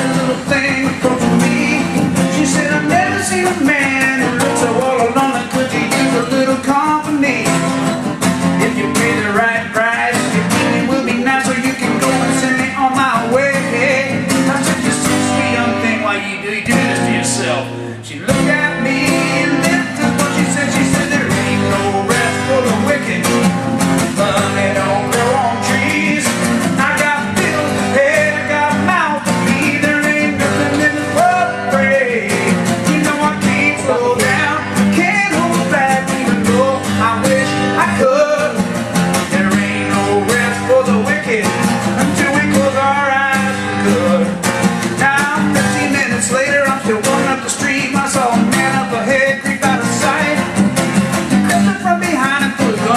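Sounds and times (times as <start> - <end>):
man singing: 0.0 - 50.7, 51.3 - 52.9
strummed acoustic guitar: 0.0 - 52.9.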